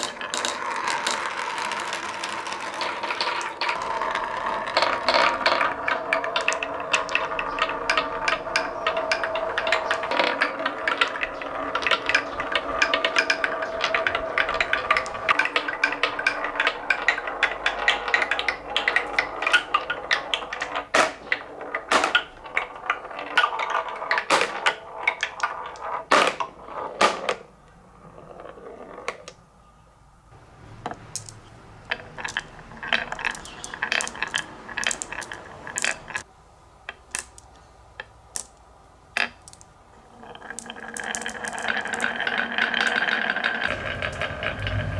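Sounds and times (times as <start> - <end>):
marbles rolling and clacking: 0.0 - 29.4, 30.8 - 36.3, 36.9 - 44.9.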